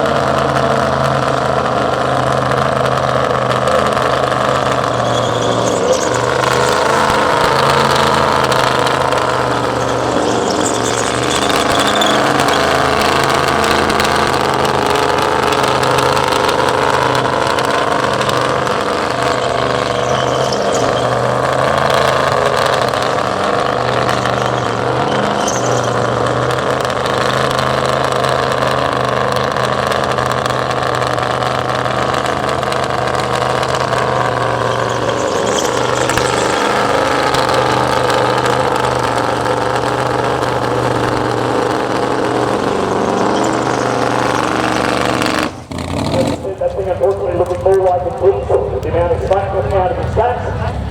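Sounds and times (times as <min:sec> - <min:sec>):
truck engine at high revs: 0:00.0 - 0:50.9.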